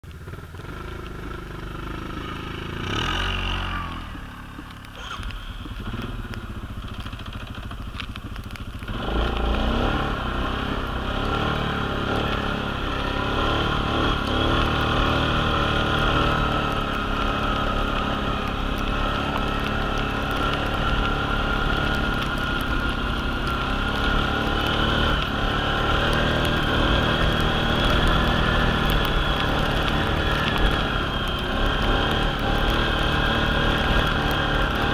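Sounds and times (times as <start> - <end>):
quad engine running: 0.1 - 34.9.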